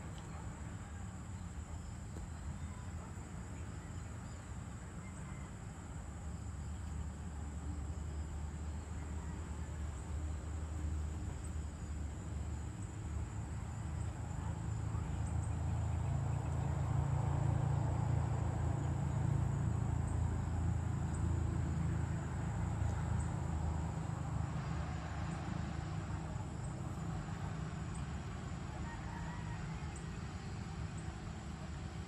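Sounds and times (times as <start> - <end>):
insect drone: 0.0 - 32.0
road traffic engine rumble: 0.0 - 32.0.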